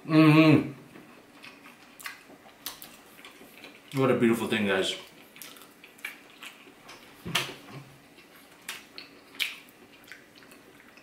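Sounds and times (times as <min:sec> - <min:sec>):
chewing smacks: 0:01.1 - 0:04.0, 0:05.0 - 0:11.0.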